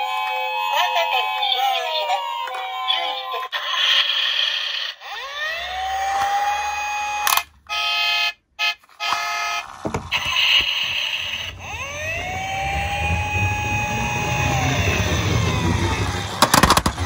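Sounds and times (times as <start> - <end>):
toy siren wailing: 0.0 - 4.0, 4.9 - 16.6.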